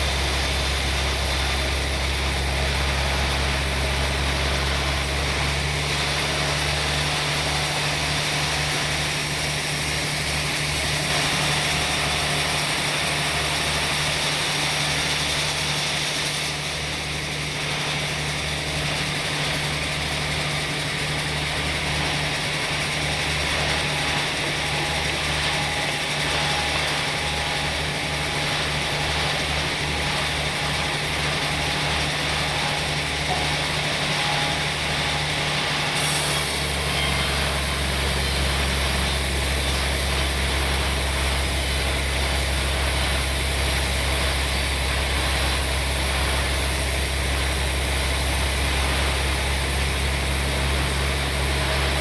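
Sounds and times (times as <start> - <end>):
sawmill machinery humming: 0.0 - 52.0.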